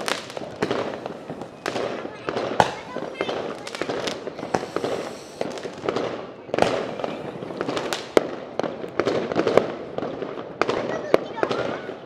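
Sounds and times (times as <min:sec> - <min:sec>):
fireworks bangs and pops: 0:00.0 - 0:12.0
fireworks crackling: 0:00.0 - 0:12.0.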